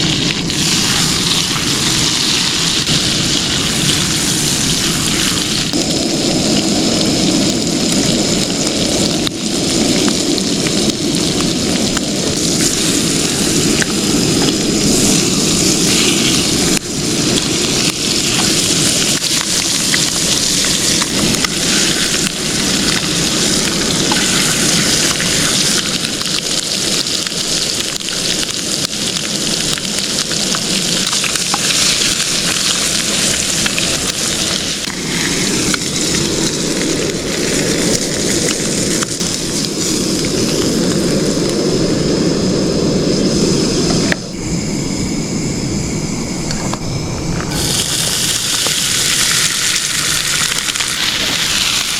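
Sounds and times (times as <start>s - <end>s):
food sizzling in a pan: 0.0s - 41.3s, 47.5s - 51.9s.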